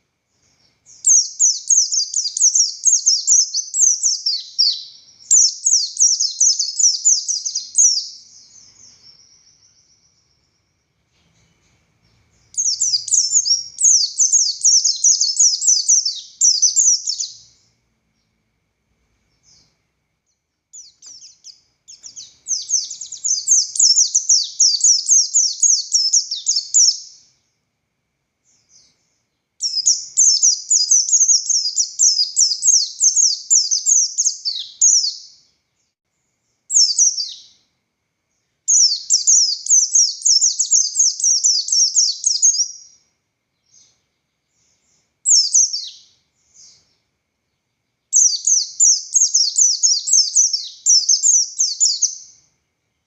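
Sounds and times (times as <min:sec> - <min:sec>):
bird singing high fast phrases: 0:00.3 - 0:18.4, 0:19.3 - 0:27.6, 0:28.5 - 0:37.7, 0:38.4 - 0:52.6.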